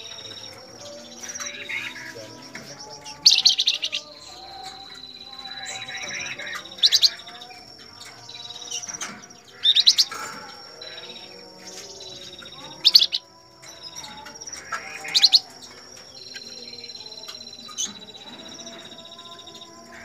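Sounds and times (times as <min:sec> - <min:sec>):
bird trill: 0:00.0 - 0:20.0
songbirds chirping: 0:00.0 - 0:20.0.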